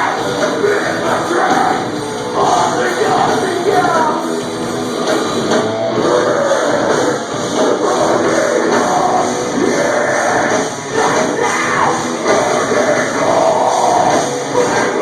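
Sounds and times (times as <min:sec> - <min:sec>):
live metal band playing: 0:00.0 - 0:15.0.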